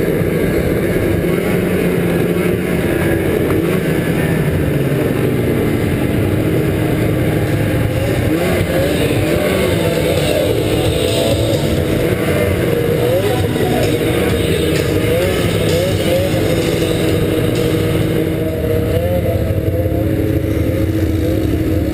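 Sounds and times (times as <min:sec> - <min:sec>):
snowmobile engine running: 0:00.0 - 0:21.9.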